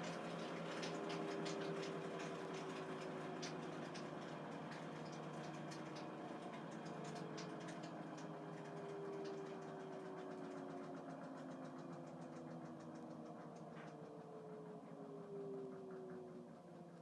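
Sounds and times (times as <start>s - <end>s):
light ticks: 0.0s - 17.0s
washing machine drum spinning: 0.0s - 17.0s.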